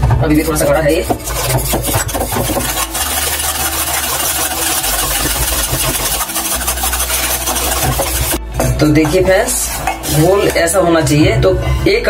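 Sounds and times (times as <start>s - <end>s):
wire whisk scraping metal pot: 0.4s - 11.1s.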